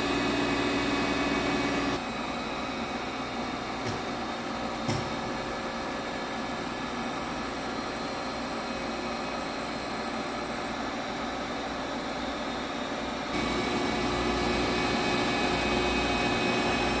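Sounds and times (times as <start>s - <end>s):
grinder machine hum: 0.0s - 17.0s.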